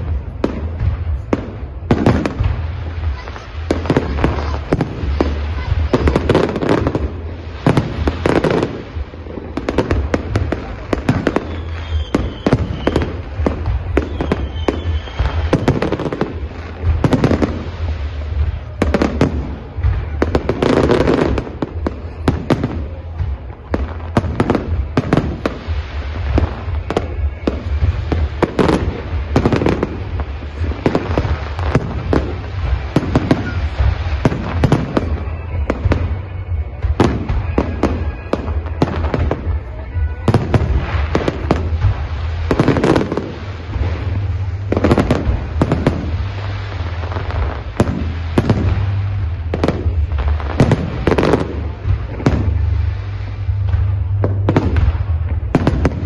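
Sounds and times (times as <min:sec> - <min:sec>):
fireworks bangs: 0:00.0 - 0:56.0
low rumble of fireworks: 0:00.0 - 0:56.0.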